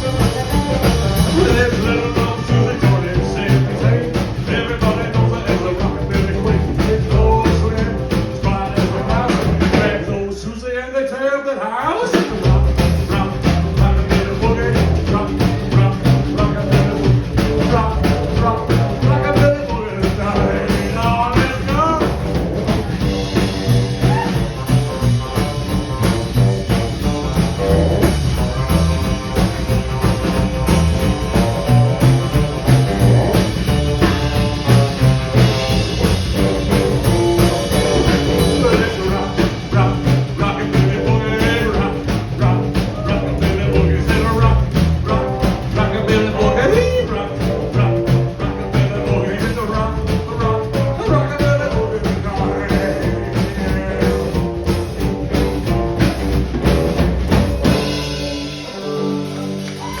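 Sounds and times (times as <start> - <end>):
live rockabilly band playing: 0.0 - 60.0.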